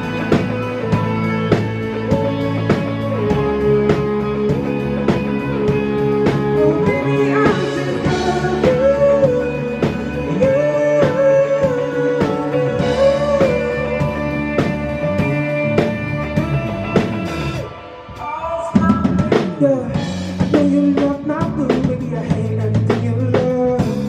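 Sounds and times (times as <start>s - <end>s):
lead guitar melody with bending notes: 0.0s - 21.7s
steady drum beat: 0.0s - 24.0s.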